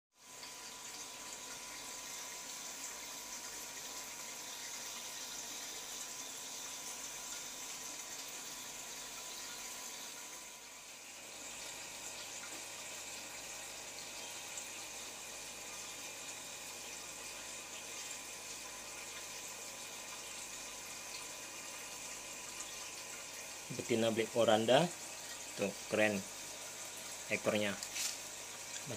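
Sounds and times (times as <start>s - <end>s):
running water hiss: 0.2s - 28.9s.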